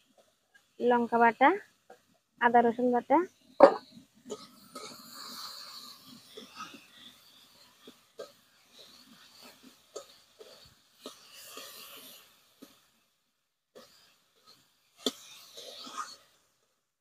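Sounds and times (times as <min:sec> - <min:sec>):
faint sizzling in a wok: 0:00.0 - 0:16.9.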